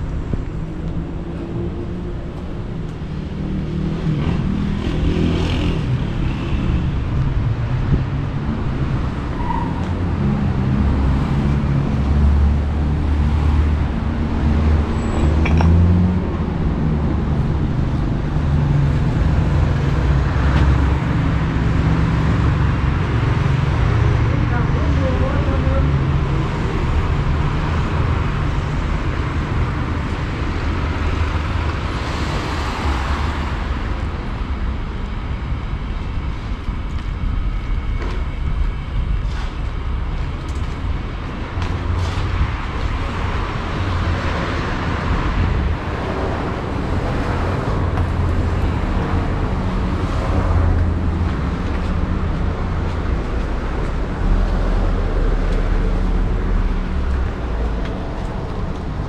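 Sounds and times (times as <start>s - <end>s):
cars passing: 0.0s - 59.0s
low traffic rumble: 0.0s - 59.0s.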